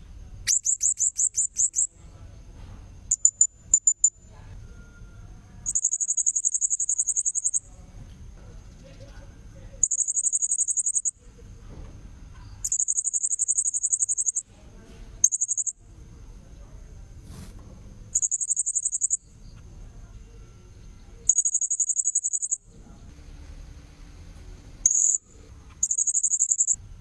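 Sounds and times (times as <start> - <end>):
faint high whine: 0.0 - 17.2, 18.1 - 27.0.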